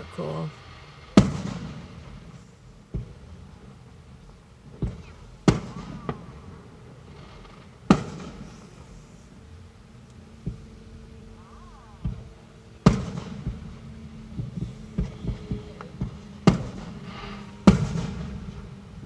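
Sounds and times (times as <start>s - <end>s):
firework bangs echoing: 0.0s - 19.0s
firework pops and crackles: 0.1s - 9.4s, 12.0s - 19.0s.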